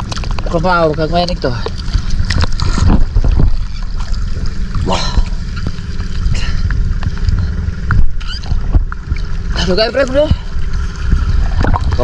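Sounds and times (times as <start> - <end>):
steady low rumble: 0.0 - 12.0
water lapping and sloshing: 0.0 - 12.0.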